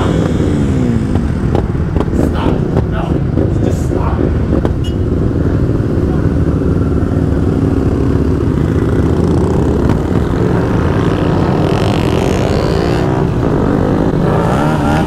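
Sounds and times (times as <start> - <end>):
motorcycle engine revving: 0.0 - 15.0
motorcycle engines running: 0.0 - 15.0.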